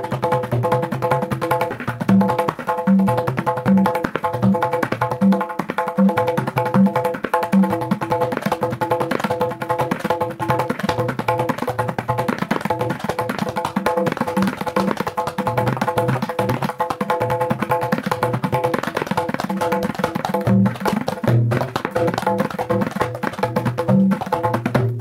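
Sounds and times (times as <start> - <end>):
rapid tabla finger strokes: 0.0 - 25.0.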